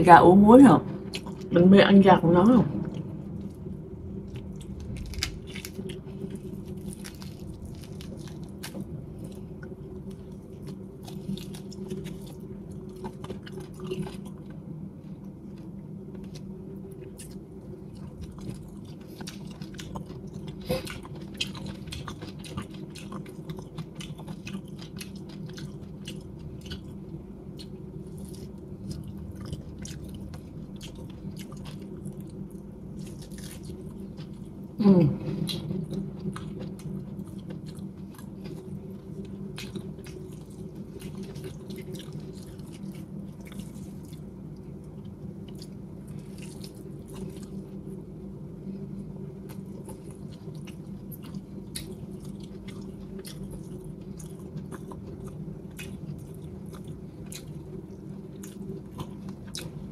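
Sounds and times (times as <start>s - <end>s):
person chewing: 2.9s - 47.8s, 49.4s - 59.9s.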